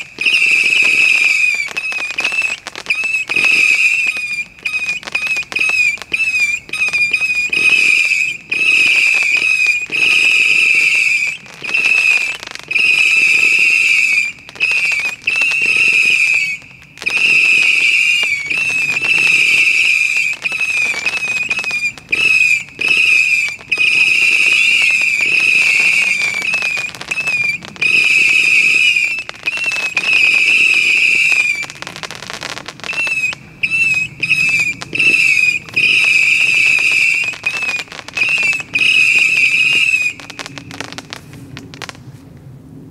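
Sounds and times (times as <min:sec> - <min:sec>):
fireworks pops: 0:00.0 - 0:42.2
fireworks whistling: 0:00.0 - 0:42.2.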